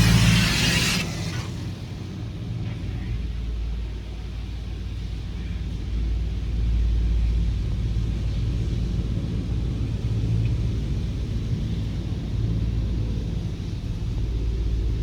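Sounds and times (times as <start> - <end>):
low mechanical rumble with hum: 0.0 - 15.0.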